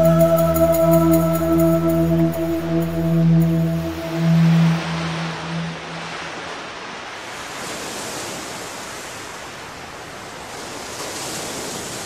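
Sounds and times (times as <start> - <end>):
rushing sea water and waves: 0.0 - 12.0.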